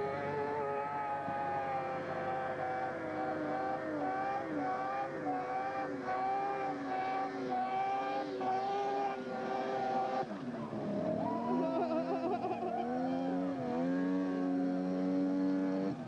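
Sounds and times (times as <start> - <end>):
snowmobile engine at high revs: 0.0 - 16.0.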